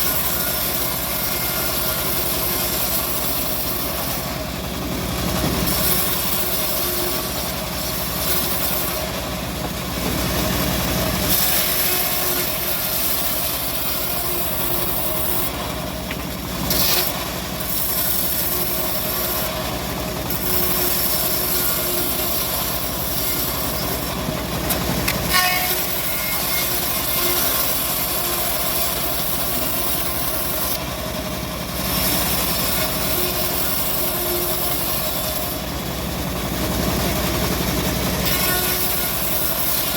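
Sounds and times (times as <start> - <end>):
bandsaw mill sawing log: 0.0 - 39.9.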